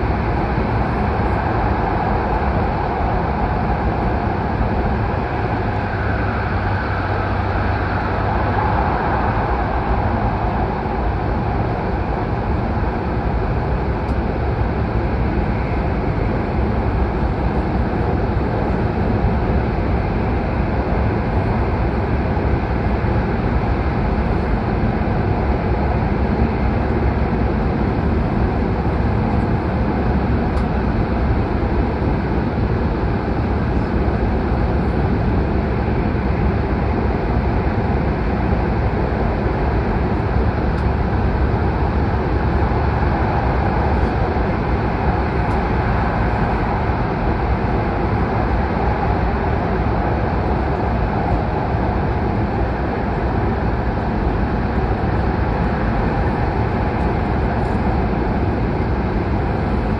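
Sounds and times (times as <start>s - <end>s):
train rumbling in tunnel: 0.0s - 59.9s.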